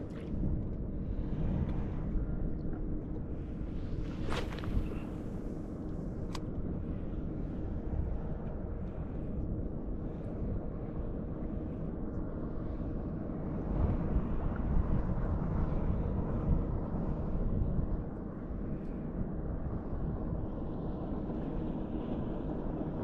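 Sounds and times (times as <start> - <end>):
faint steady hum: 0.0 - 23.0
wind rumble on microphone: 0.0 - 23.0.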